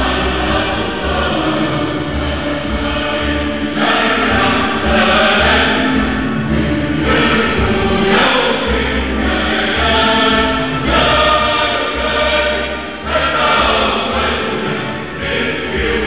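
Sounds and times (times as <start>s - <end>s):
choir singing with accompaniment: 0.0s - 16.0s.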